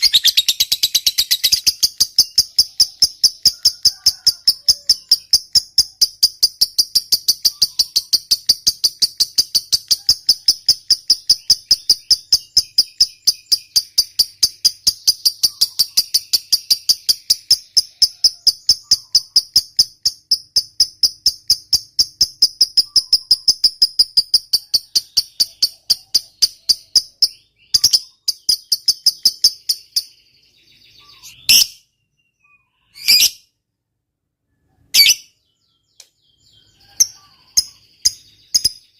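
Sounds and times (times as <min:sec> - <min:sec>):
lovebird chattering trill: 0:00.0 - 0:33.4, 0:34.8 - 0:35.6, 0:36.4 - 0:38.9
sharp bird calls: 0:00.0 - 0:33.6, 0:34.5 - 0:38.9.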